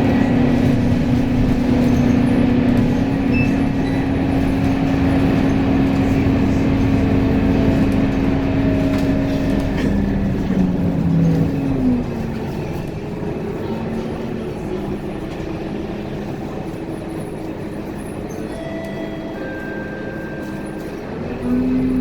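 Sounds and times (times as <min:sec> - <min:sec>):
train motor hum: 0:00.0 - 0:22.0
train rumbling: 0:00.0 - 0:22.0.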